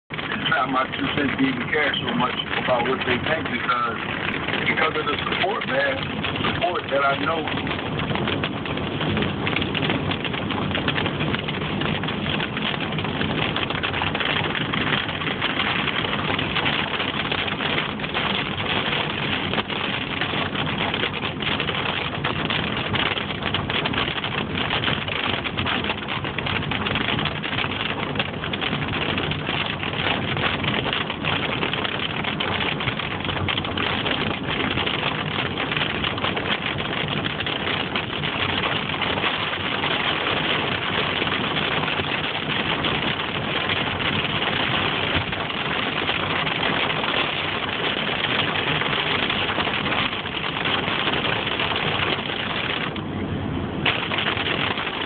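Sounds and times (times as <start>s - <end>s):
heavy rain on car roof: 0.0s - 55.0s
tyre and road noise: 0.0s - 55.0s.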